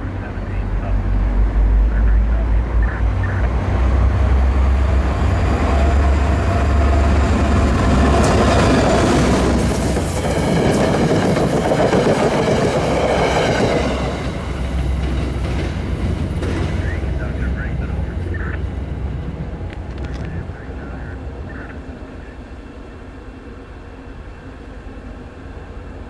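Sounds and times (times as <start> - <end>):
locomotive engine drone: 0.0 - 26.0
train wheels rumbling on rails: 0.0 - 26.0.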